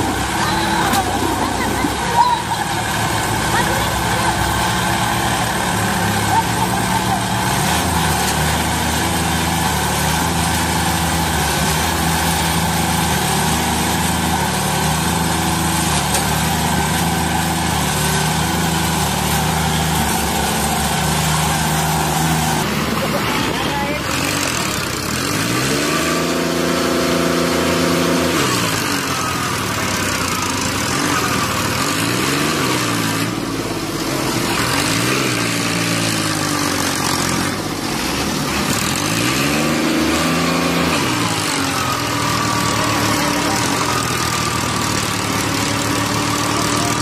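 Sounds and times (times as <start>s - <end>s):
tractor engine revving: 0.0s - 47.0s.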